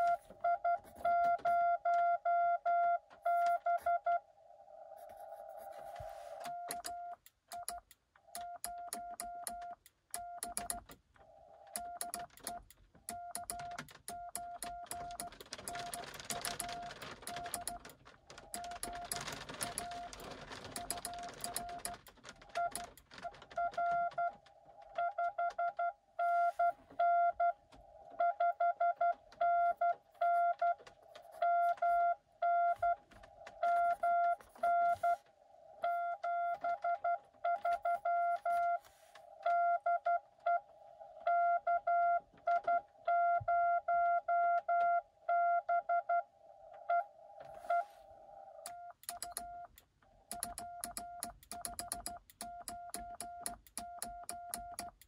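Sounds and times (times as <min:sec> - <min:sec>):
morse code beeps: 0:00.0 - 0:04.2, 0:05.4 - 0:10.8, 0:11.7 - 0:17.9, 0:18.6 - 0:22.9, 0:25.0 - 0:27.6, 0:28.2 - 0:33.0, 0:33.6 - 0:35.2, 0:35.8 - 0:40.6, 0:41.2 - 0:47.9, 0:48.7 - 0:55.0.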